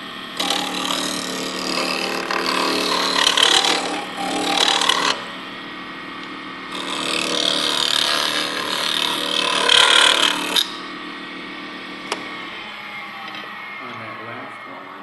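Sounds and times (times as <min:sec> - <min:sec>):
lathe tool cutting wood: 0:00.0 - 0:15.0.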